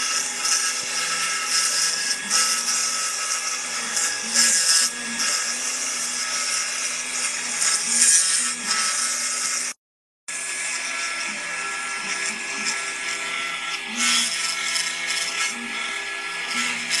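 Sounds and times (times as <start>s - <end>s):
engraving machine spindle whine: 0.0s - 17.0s.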